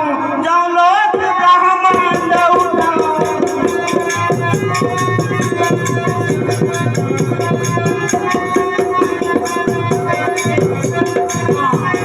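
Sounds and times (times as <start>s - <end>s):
fast hand-drum playing: 1.2s - 12.0s
jingling percussion: 1.9s - 12.0s.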